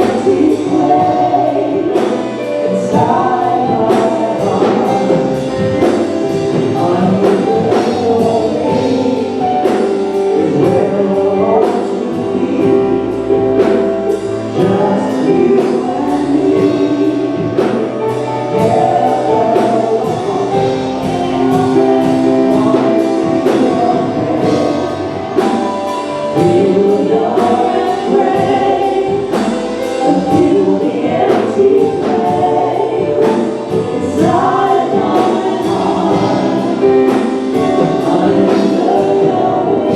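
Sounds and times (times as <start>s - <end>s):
choir singing worship song: 0.0s - 39.9s
live band accompaniment: 0.0s - 39.9s
steady drum beat: 0.0s - 39.9s.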